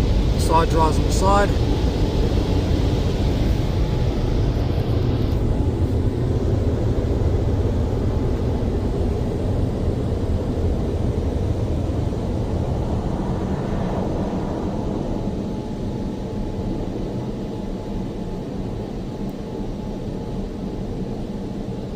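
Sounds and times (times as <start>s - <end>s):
car wash dryer blowers: 0.0s - 21.9s.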